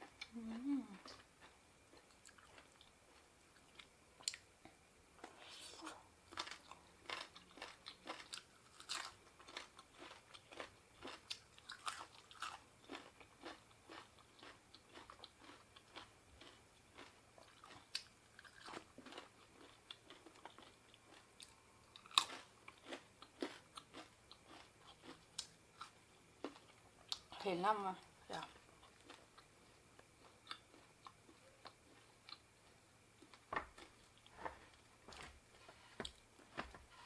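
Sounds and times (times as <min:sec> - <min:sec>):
person chewing crunchy food: 0:00.0 - 0:04.5, 0:05.3 - 0:27.3, 0:28.3 - 0:37.0.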